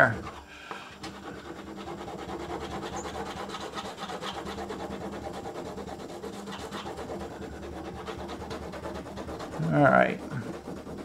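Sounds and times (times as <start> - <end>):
crayon scratching on paper: 0.0 - 11.0.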